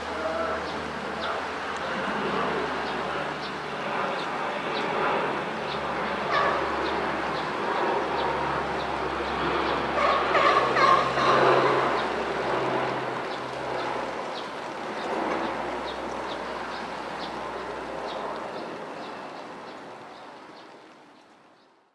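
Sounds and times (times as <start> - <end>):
heavy rain hissing: 0.0 - 21.2
low constant hum: 0.0 - 21.9.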